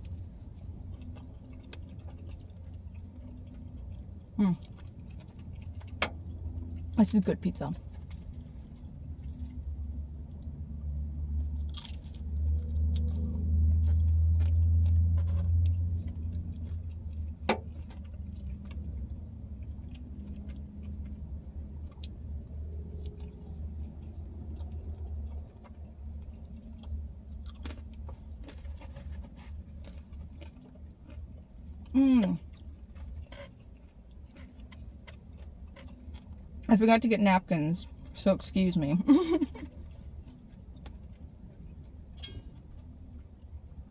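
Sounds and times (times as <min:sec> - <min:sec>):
person chewing pizza: 0:00.0 - 0:36.7, 0:39.0 - 0:43.9
steady low hum: 0:00.0 - 0:43.9.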